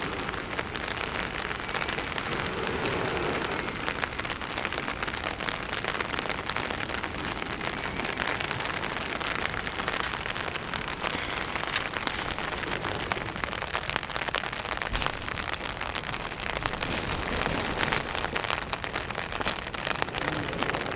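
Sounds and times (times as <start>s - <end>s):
rain pattering: 0.0s - 20.9s.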